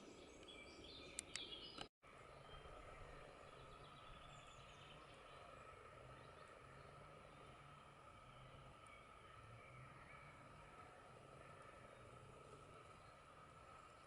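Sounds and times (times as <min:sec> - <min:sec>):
faint bird chirps: 0:00.0 - 0:14.0
faint steady hum: 0:02.1 - 0:14.0.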